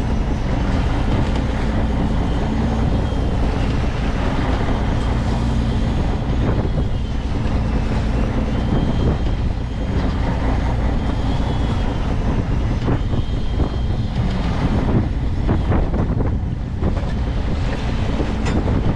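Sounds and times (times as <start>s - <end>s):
boat engine droning: 0.0s - 18.9s
sea noise: 0.0s - 18.9s
wind: 0.0s - 18.9s.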